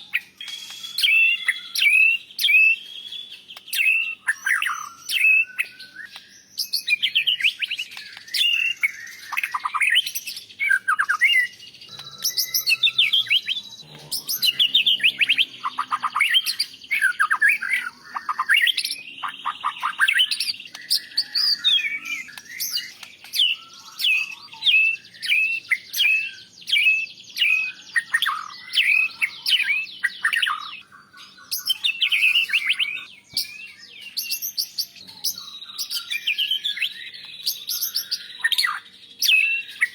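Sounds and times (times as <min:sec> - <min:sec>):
bird singing varied whistled song: 0:00.0 - 0:39.9.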